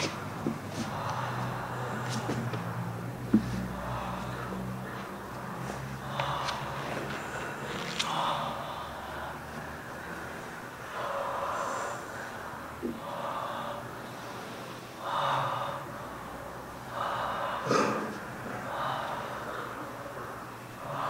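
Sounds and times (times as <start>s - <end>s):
people exhaling and gasping: 0.0s - 21.0s.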